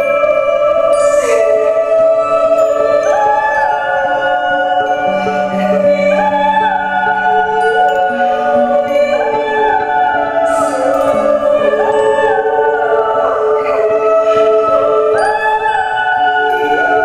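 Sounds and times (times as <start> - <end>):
woman singing: 0.0 - 17.0
violin bowing: 0.8 - 17.0.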